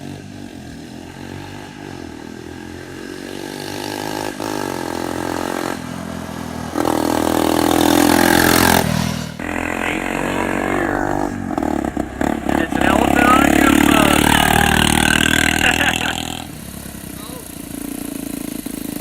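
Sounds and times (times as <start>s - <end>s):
small motorbike engine revving: 0.0s - 19.0s.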